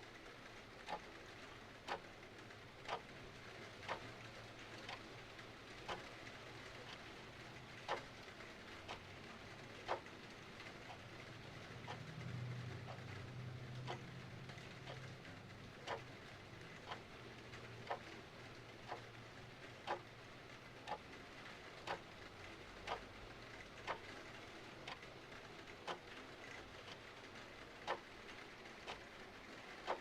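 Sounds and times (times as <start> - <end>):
clock ticking: 0.8 - 30.0.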